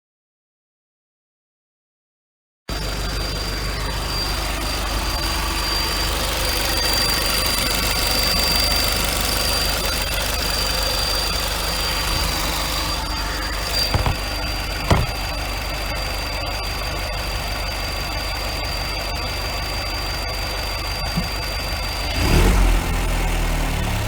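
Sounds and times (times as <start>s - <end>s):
car engine idling: 2.7s - 24.0s
high-pitched whine: 2.7s - 24.0s.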